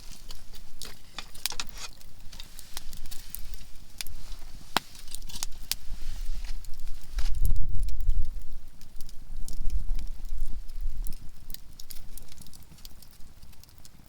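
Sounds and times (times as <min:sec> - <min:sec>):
firewood crackling and popping: 0:00.0 - 0:14.0.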